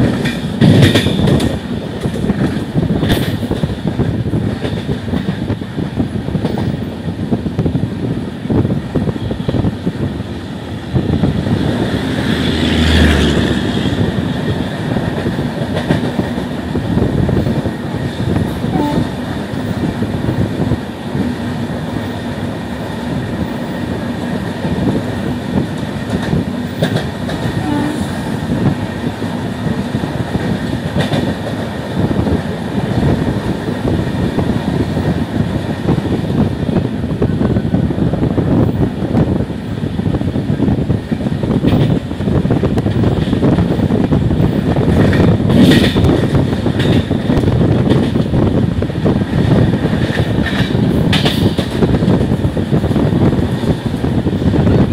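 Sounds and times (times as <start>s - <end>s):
passing train rushing: 0.0s - 54.9s
train rumble with clattering wheels: 0.0s - 54.9s.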